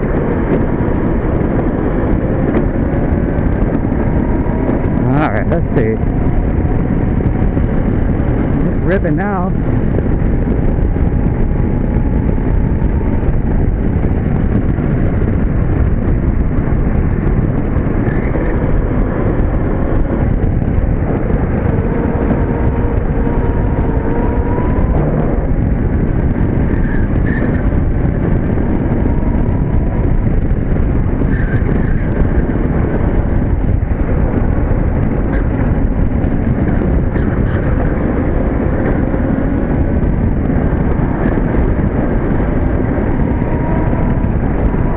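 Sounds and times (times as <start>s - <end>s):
wheels rolling rumble: 0.0s - 44.9s
wind rushing: 0.0s - 44.9s.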